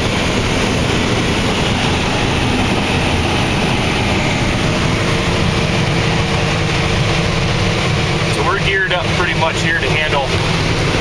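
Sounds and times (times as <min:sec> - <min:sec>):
combine harvester running: 0:00.0 - 0:11.0
steady humming tones: 0:00.0 - 0:11.0.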